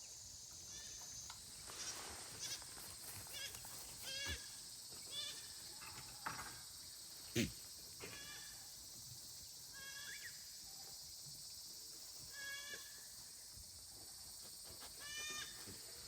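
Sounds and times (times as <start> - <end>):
steady high-pitched hiss: 0.0 - 16.0.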